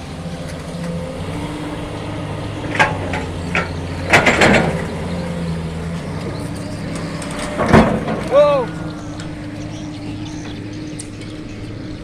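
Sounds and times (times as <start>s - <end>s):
diesel engine running: 0.0s - 12.0s
metal clanking and clatter: 0.1s - 12.0s.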